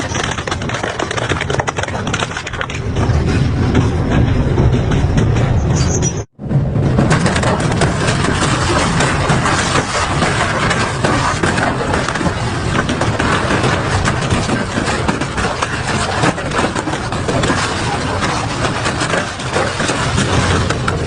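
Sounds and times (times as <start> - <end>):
metal cracking and crunching: 0.0 - 4.3, 6.8 - 21.0
industrial shredder rumbling: 0.0 - 21.0.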